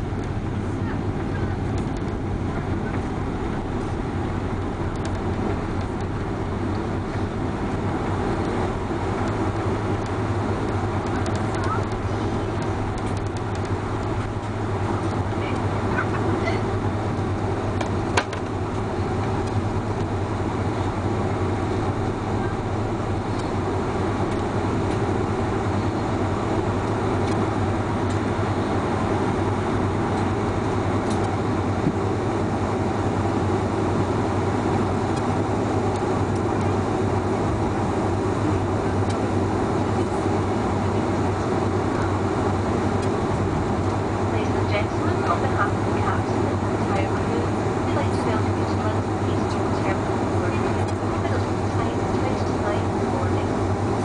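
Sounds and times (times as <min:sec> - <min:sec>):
airliner cabin engine hum: 0:00.0 - 0:54.0.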